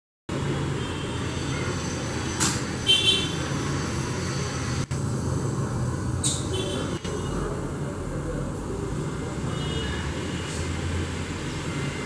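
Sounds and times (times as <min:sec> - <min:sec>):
city road traffic rumble: 0:00.3 - 0:12.0.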